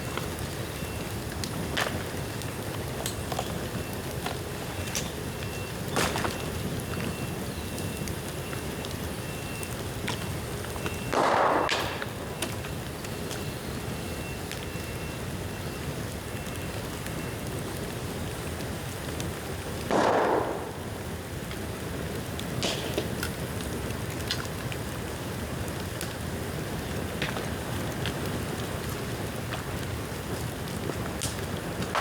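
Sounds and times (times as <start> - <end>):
bonfire crackling: 0.0 - 32.0.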